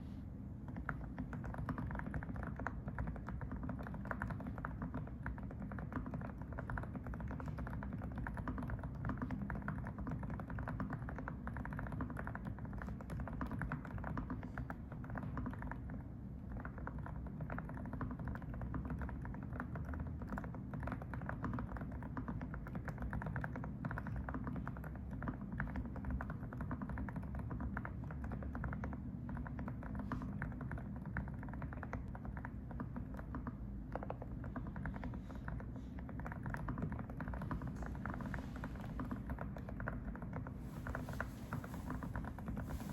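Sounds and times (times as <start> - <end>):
soft mechanical keyboard typing: 0.5 - 42.9.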